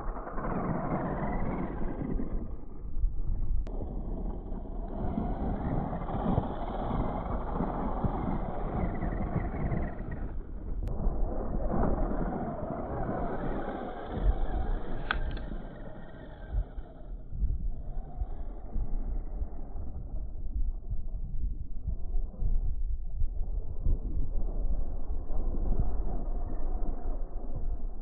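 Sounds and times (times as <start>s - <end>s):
rc car motor and tyres on dirt: 0.0s - 20.8s, 23.1s - 28.0s.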